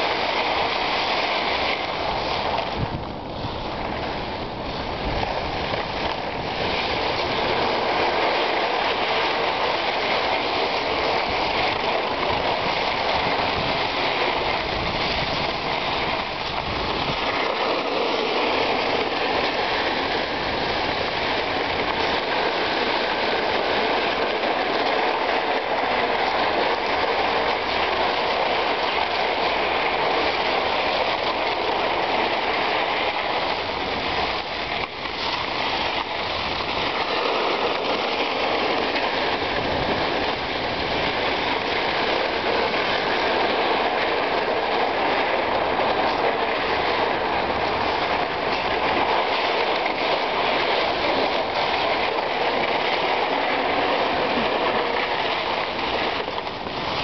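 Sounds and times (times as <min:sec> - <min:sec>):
skate blades scraping ice: 0:00.0 - 0:57.0
sled gliding over ice: 0:00.0 - 0:57.0.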